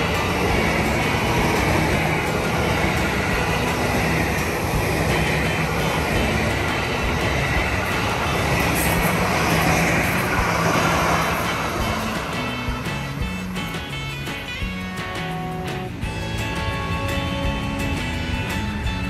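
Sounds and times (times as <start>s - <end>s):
train running on rails: 0.0s - 19.0s.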